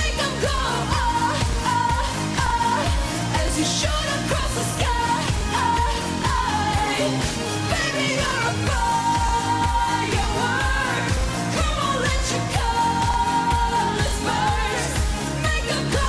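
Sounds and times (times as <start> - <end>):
driving drum beat: 0.0 - 16.0
woman singing pop song: 0.0 - 16.0.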